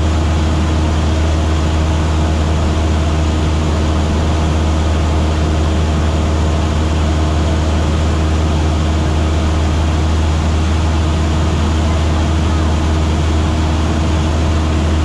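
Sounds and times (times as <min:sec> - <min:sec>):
light aircraft engine droning: 0:00.0 - 0:15.0.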